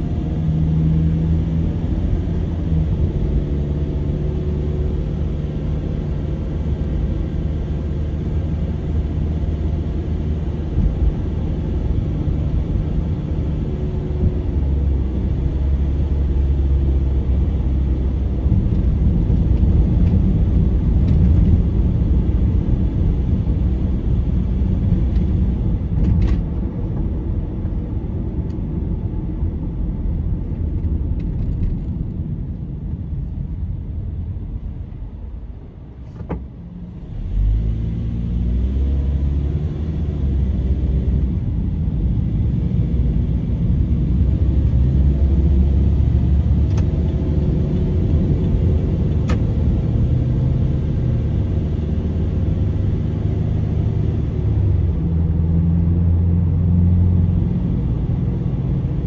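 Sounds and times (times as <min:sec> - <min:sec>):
car engine: 0:00.0 - 0:59.0.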